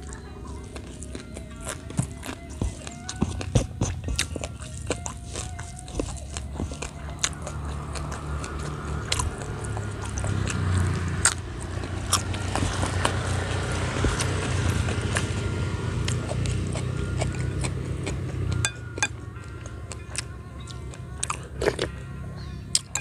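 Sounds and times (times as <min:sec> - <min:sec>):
person chewing with mouth clicks: 0:00.0 - 0:22.1, 0:22.7 - 0:23.0.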